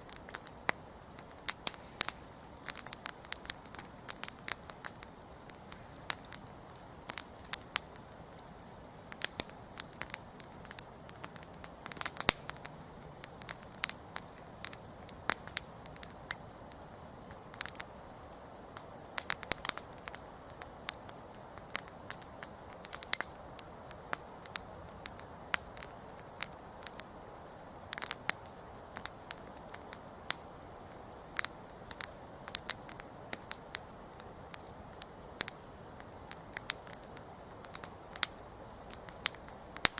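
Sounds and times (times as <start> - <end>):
campfire crackling and popping: 0.0 - 39.9
hiss of flame: 0.0 - 39.9.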